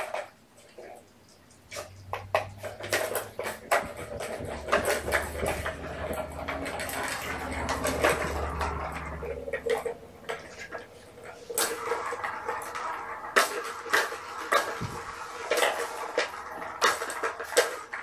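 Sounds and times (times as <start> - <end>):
plastic toy clattering down: 1.8 - 18.0
toys rustling on carpet: 2.6 - 18.0.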